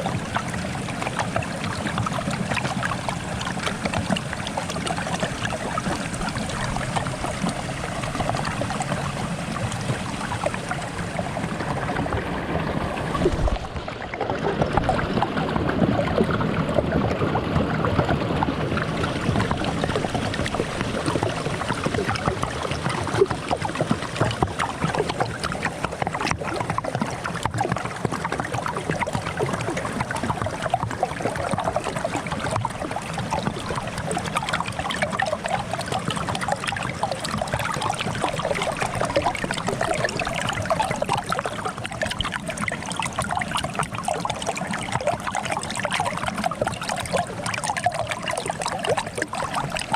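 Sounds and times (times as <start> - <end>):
water gurgling under ice: 0.0 - 49.9.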